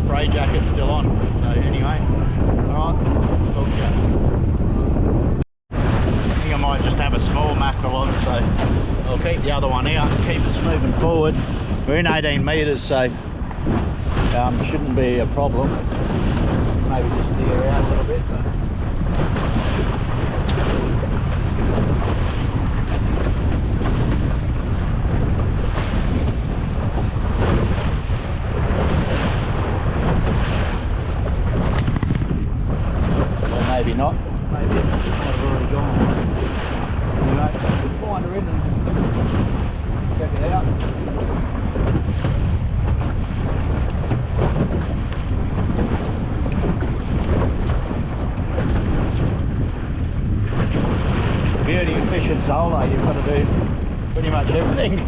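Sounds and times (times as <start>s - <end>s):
boat motor running: 0.0s - 55.0s
water slapping hull: 0.0s - 55.0s
wind buffeting microphone: 0.0s - 55.0s.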